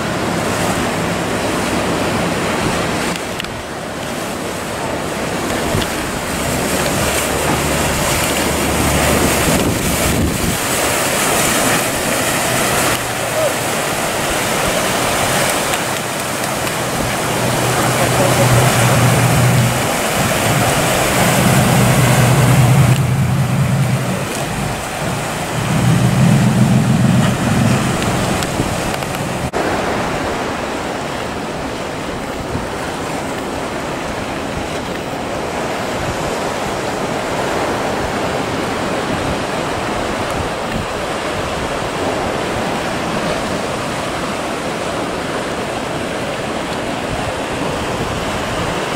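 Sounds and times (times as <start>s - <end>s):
boat diesel engine droning: 0.0s - 40.4s
sea chop and surf: 0.0s - 48.9s
wind buffeting microphone: 0.0s - 48.9s.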